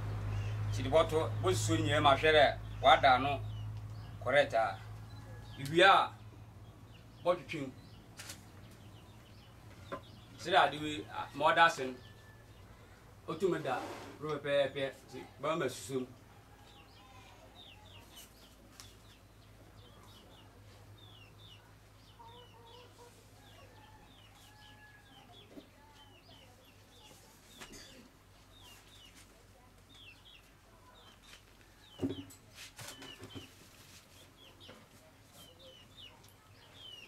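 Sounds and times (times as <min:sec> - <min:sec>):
faint birds chirping: 0:00.0 - 0:37.0.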